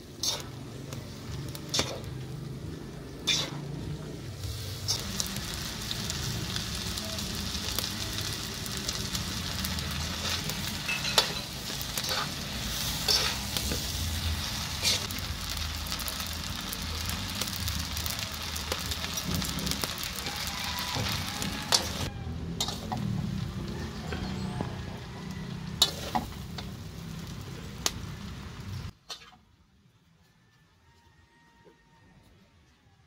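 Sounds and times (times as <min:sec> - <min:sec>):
noodles sizzling in a wok: 0:00.0 - 0:24.1, 0:24.9 - 0:29.4.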